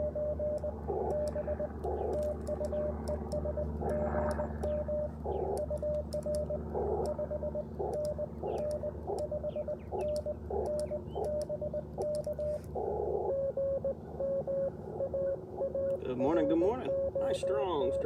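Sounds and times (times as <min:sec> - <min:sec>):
lower-pitched morse signal: 0:00.0 - 0:18.0
morse code beeps: 0:00.0 - 0:18.0.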